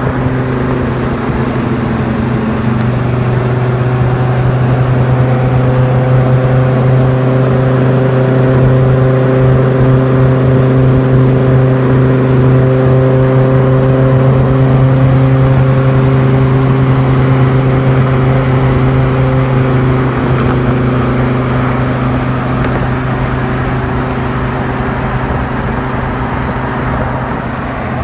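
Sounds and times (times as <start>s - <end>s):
car engine droning: 0.0s - 28.0s.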